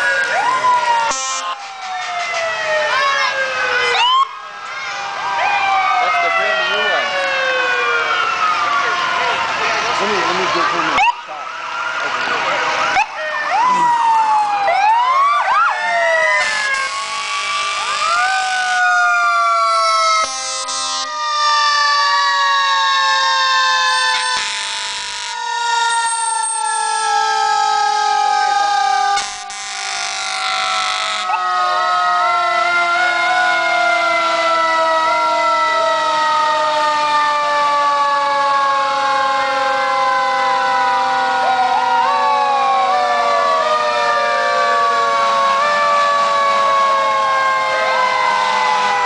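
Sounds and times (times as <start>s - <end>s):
emergency vehicle siren wailing: 0.0s - 49.0s.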